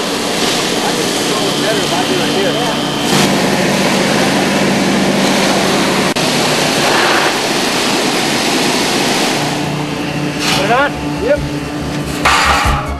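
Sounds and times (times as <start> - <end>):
air rushing through suction pipe: 0.0 - 11.3
low engine drone: 0.0 - 12.9.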